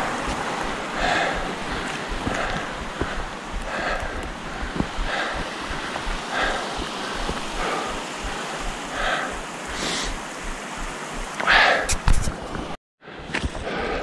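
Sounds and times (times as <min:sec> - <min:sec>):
person breathing hard: 0:00.0 - 0:12.0, 0:13.0 - 0:14.0
steady hiss: 0:00.0 - 0:12.8.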